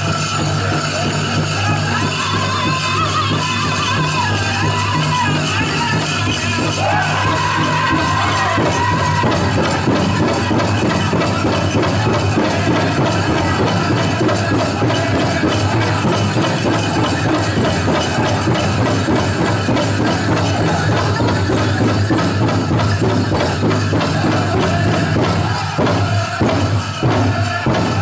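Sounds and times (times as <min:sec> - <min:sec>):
ankle bells jingling: 0:00.0 - 0:28.0
big drum beaten fast: 0:00.0 - 0:28.0
singers' voices: 0:00.0 - 0:28.0.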